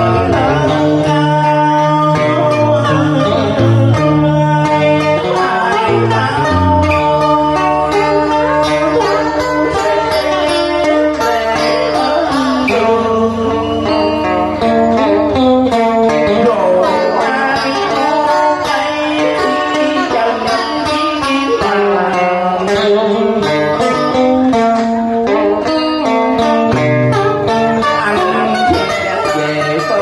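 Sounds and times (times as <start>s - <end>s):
plucked string melody with bending notes: 0.0s - 30.0s.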